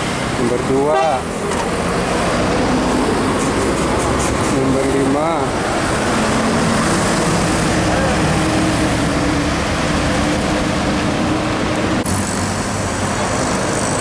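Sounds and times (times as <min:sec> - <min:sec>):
bus diesel engine running: 0:00.0 - 0:14.0
trucks and vans passing: 0:00.0 - 0:14.0
tyres on the road: 0:00.0 - 0:14.0.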